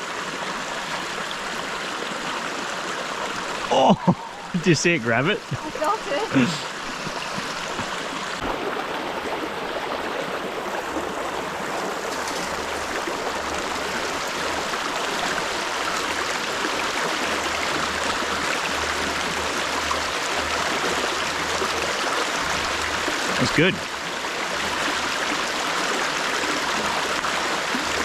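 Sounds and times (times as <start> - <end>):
stream flowing over rocks: 0.0 - 28.0.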